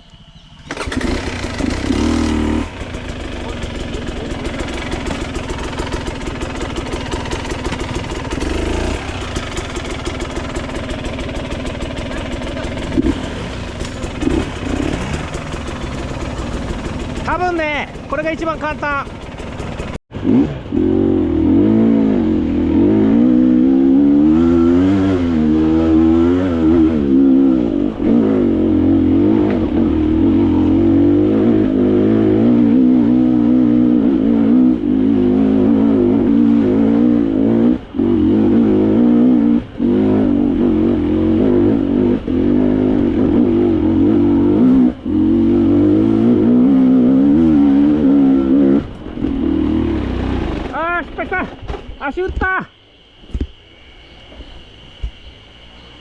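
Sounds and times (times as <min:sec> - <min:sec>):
dirt bike engine revving: 0:00.4 - 0:51.5.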